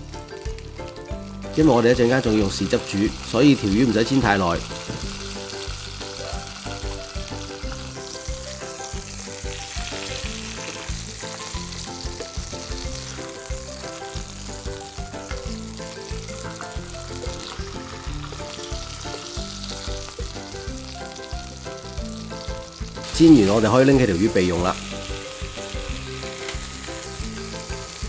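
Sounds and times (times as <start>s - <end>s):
background music: 0.0s - 28.0s
fish sizzling in oil: 0.0s - 28.0s
spatula turning fish in pan: 2.2s - 28.0s.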